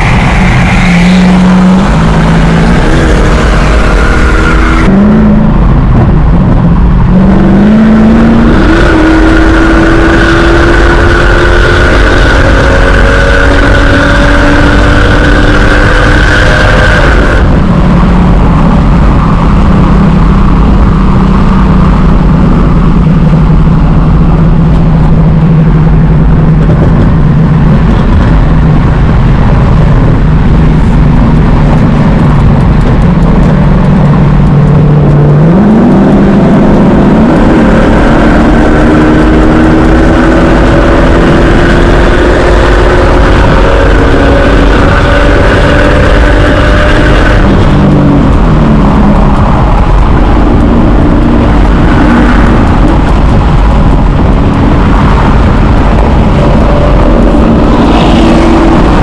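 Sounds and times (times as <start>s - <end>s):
car engine accelerating: 0.0s - 59.0s
road noise: 0.0s - 59.0s.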